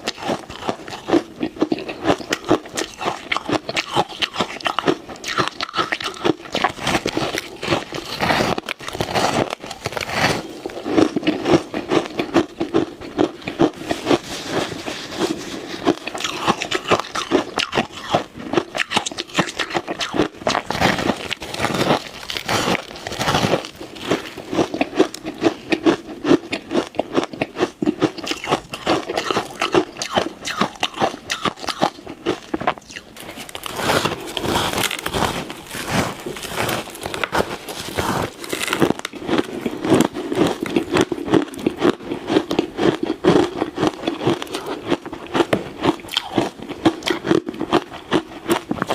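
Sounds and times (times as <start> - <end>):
chewing ice crunches: 0.0 - 48.9.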